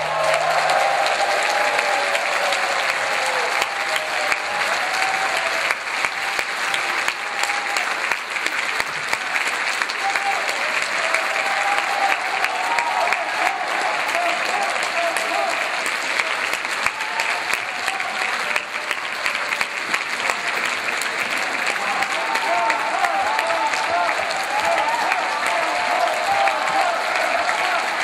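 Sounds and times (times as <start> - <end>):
audience applause: 0.0 - 28.0.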